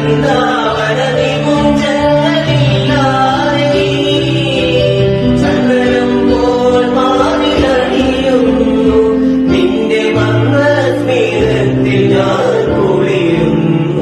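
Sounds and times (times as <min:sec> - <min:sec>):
steady musical accompaniment: 0:00.0 - 0:14.0.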